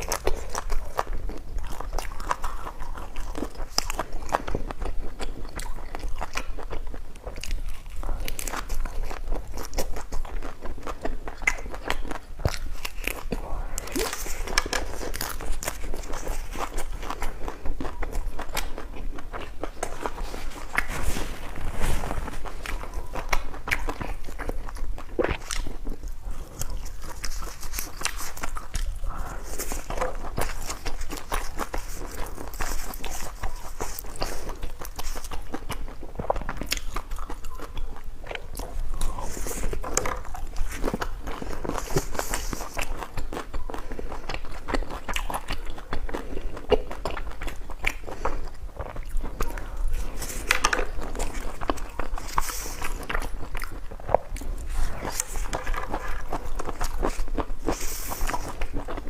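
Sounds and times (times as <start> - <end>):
food crunching between teeth: 0.0 - 59.0
person chewing food: 0.0 - 59.0.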